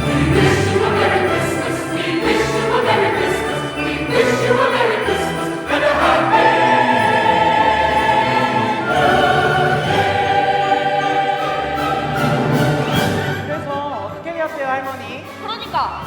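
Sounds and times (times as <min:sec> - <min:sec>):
choir singing long notes: 0:00.0 - 0:13.5
instrumental accompaniment: 0:00.0 - 0:16.0.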